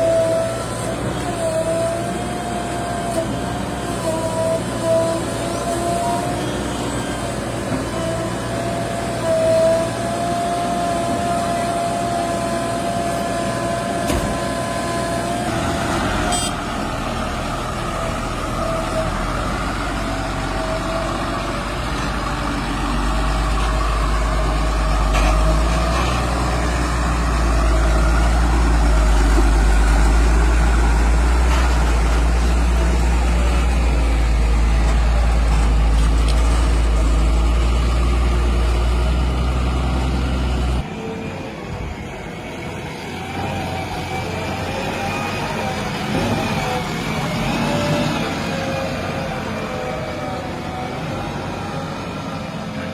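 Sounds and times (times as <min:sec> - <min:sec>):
diesel engine rumble: 0:00.0 - 0:52.9
machinery whine: 0:00.0 - 0:52.9.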